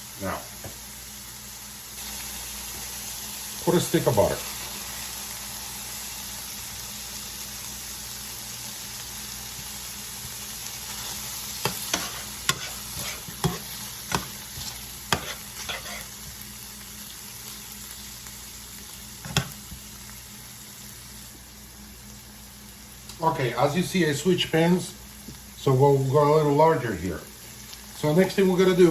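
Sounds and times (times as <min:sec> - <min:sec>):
vegetables sizzling in oil: 0:00.0 - 0:28.9.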